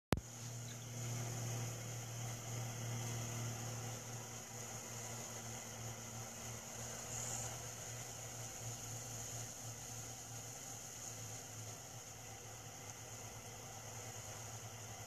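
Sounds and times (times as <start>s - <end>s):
machine hum with hiss: 0.1s - 15.0s.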